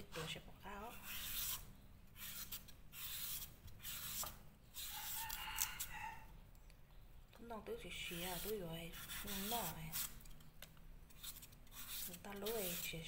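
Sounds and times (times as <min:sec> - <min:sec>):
knife scraping papaya: 0:00.0 - 0:06.3, 0:08.0 - 0:13.0.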